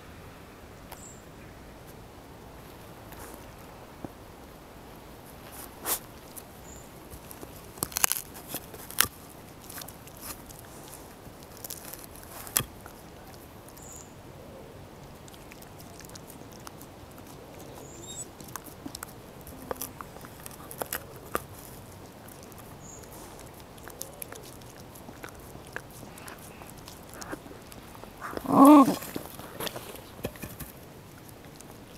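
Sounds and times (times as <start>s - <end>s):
dog gnawing wooden stick: 2.6s - 4.2s, 5.2s - 14.2s, 14.8s - 31.9s.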